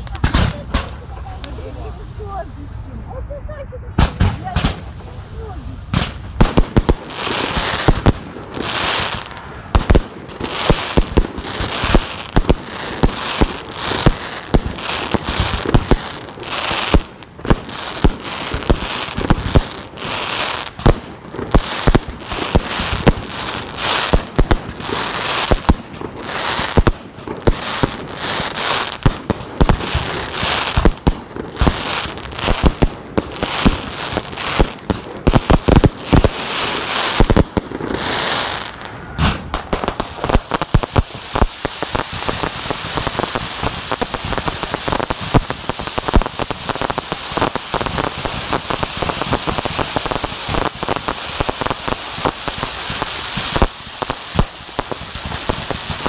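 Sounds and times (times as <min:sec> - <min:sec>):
fireworks bangs: 0:00.0 - 0:02.5, 0:03.4 - 0:56.0
fireworks crackling and hiss: 0:00.0 - 0:56.0.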